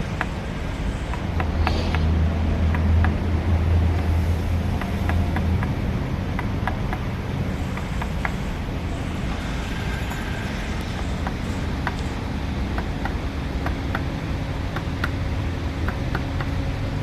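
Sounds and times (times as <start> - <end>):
constant low rumble: 0.0 - 17.0
low motor hum: 0.0 - 17.0.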